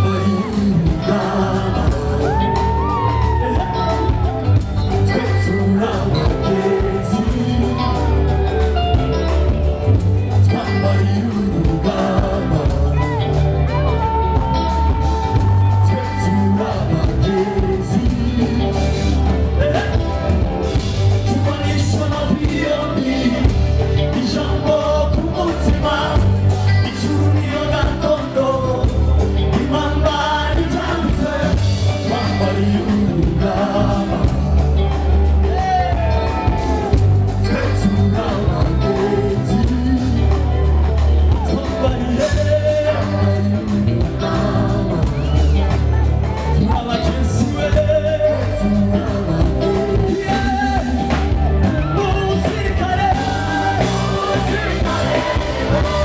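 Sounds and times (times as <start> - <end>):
backing vocals: 0.0 - 9.0, 10.4 - 56.0
heavy bass line: 0.0 - 56.0
live gospel band: 0.0 - 56.0
man singing lead: 0.0 - 56.0.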